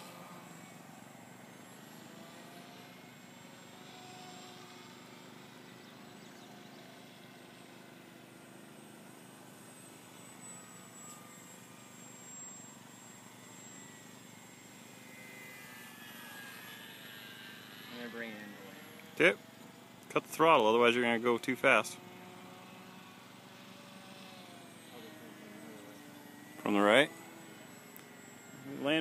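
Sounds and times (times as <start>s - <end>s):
model plane propeller whining: 0.0s - 29.0s.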